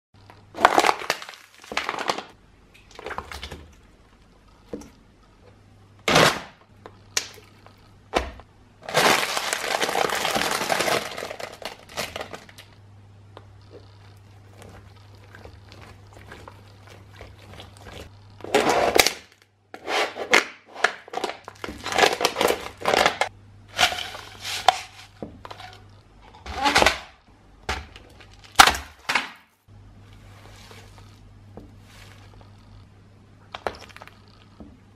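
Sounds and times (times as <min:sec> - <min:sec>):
plastic cups cracking and crumpling: 0:00.2 - 0:05.0, 0:06.0 - 0:12.8, 0:13.4 - 0:19.6, 0:20.2 - 0:29.5, 0:33.4 - 0:34.6.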